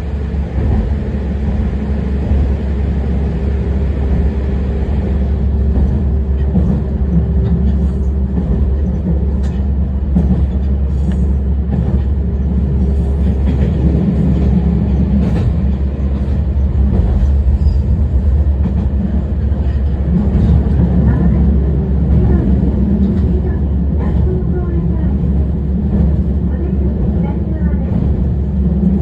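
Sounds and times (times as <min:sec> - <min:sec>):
diesel railcar running: 0:00.0 - 0:29.0.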